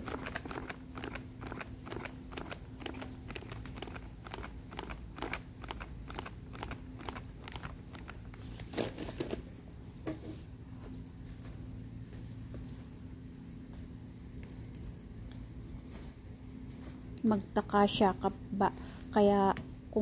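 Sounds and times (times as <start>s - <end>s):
charcoal grill crackling: 0.0s - 20.0s.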